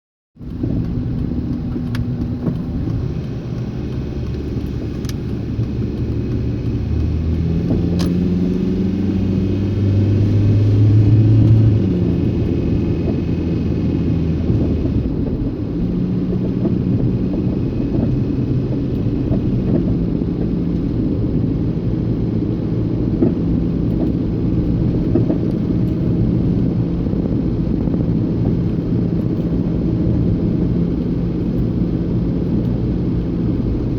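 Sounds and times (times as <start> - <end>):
road rumble: 0.4 - 33.9
van engine running: 0.4 - 33.9.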